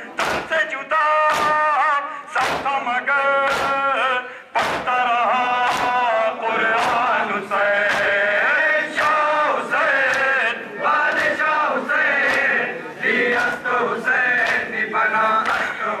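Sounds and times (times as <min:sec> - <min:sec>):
men chanting in unison: 0:00.0 - 0:16.0
hands slapping chests: 0:00.2 - 0:00.6, 0:01.3 - 0:01.7, 0:02.4 - 0:02.8, 0:03.4 - 0:03.9, 0:04.6 - 0:15.9.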